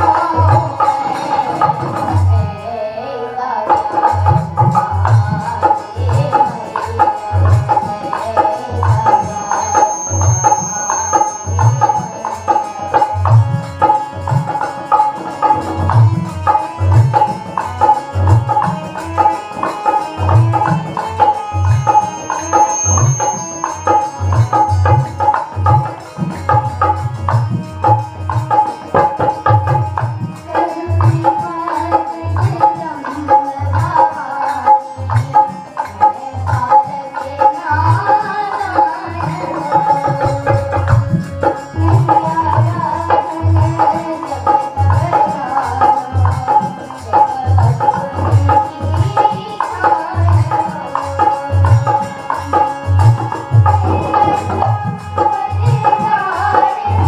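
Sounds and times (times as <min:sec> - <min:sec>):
harmonium playing a melody: 0:00.0 - 0:57.0
hand drum rhythm: 0:03.7 - 0:57.0.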